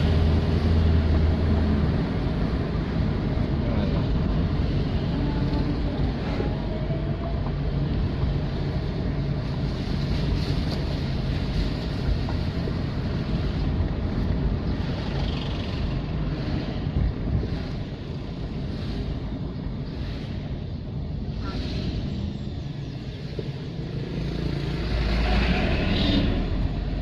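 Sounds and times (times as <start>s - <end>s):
wind buffeting microphone: 0.0s - 23.7s
low engine hum: 0.0s - 27.0s
vehicle engines running: 0.0s - 27.0s.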